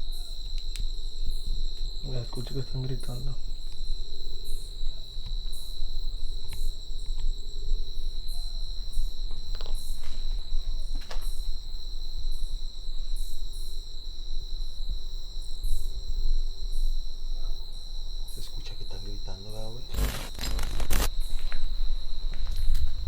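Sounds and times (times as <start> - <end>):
crickets trilling: 0.0 - 23.0
high insect chirps: 0.0 - 23.0.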